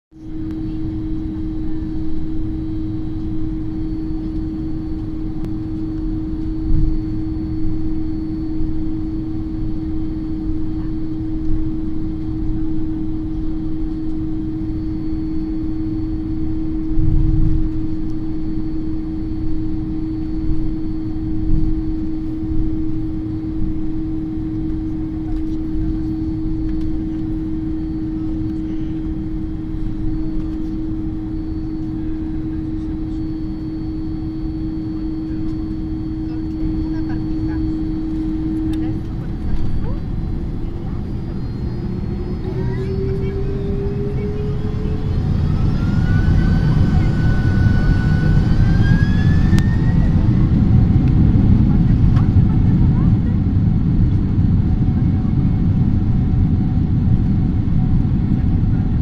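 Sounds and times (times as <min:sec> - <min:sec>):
jet engines droning: 0:00.2 - 0:59.0.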